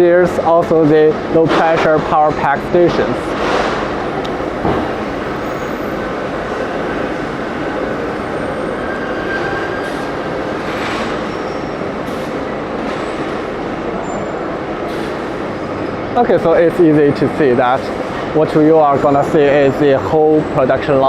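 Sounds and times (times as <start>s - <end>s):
factory machinery rumbling: 0.0s - 21.0s.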